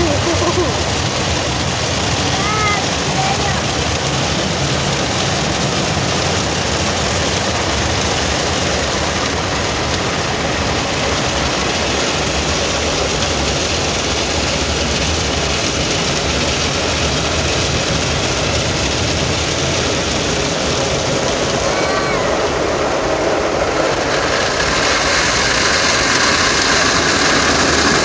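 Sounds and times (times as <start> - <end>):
car wash spray and machinery: 0.0 - 28.0.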